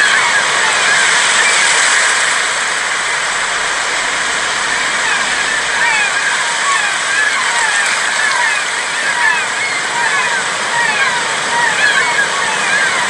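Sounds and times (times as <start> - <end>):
sea waves washing on beach: 0.0 - 13.0.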